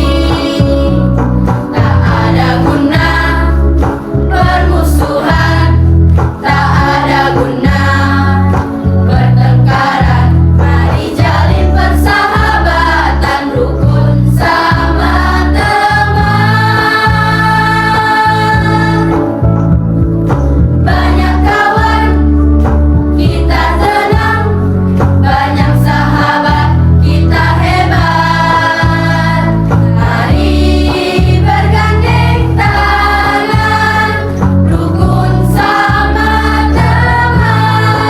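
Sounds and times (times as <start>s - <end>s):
choir singing: 0.0s - 1.1s, 1.7s - 19.2s, 20.9s - 22.4s, 23.2s - 24.6s, 25.2s - 38.0s
instrumental accompaniment with bass: 0.0s - 38.0s.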